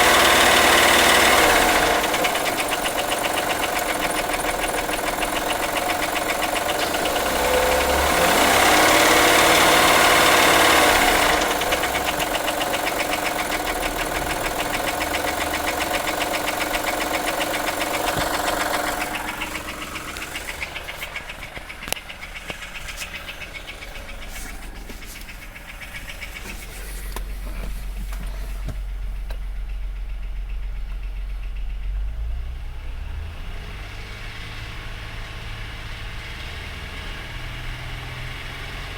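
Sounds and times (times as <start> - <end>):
sharp engine ticks: 0.0 - 32.3
car engine knocking: 0.0 - 38.9.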